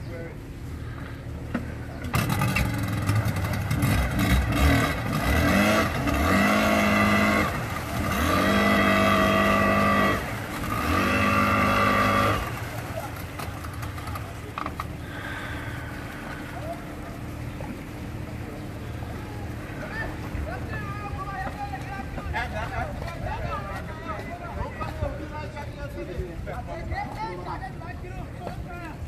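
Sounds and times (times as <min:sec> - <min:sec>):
propeller churning water: 0:00.0 - 0:29.0
outboard motor revving: 0:00.4 - 0:24.6.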